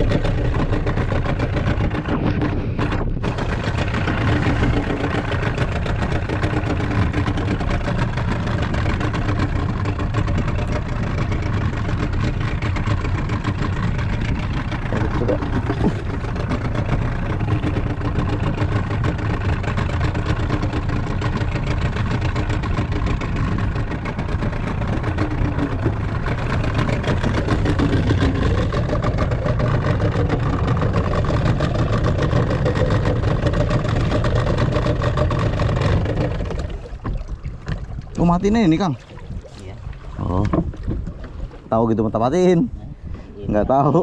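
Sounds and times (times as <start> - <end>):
boat engine running: 0.0 - 44.0.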